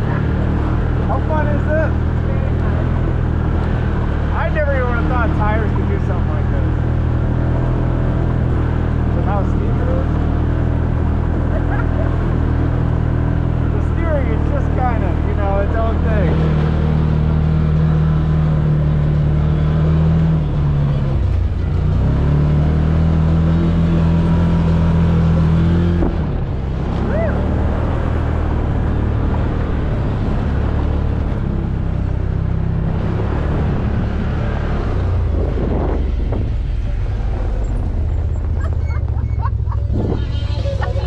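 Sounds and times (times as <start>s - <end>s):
rough rumble: 0.0s - 41.0s
vehicle engine running under load: 0.0s - 41.0s.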